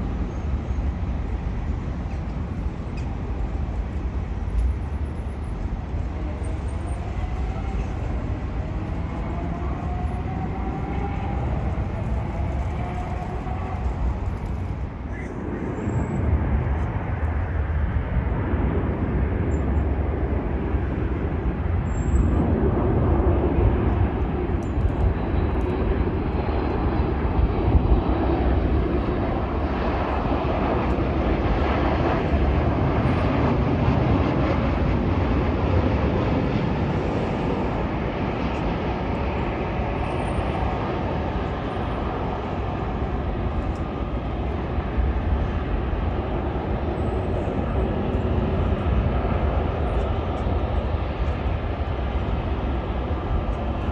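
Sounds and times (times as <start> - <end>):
jet engine rushing: 0.0 - 53.9.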